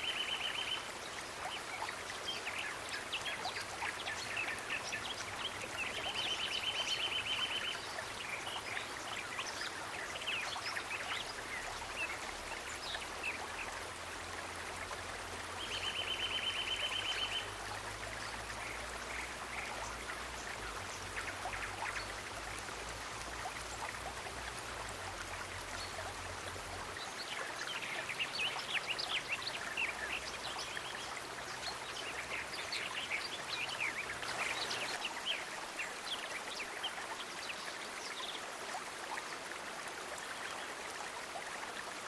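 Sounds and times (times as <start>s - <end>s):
running water: 0.0s - 42.0s.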